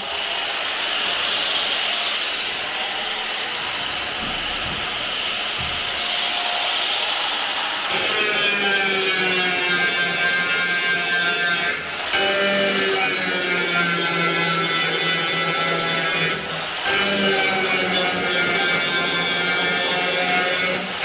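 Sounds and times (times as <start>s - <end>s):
tool rasping on metal: 0.9s - 21.0s.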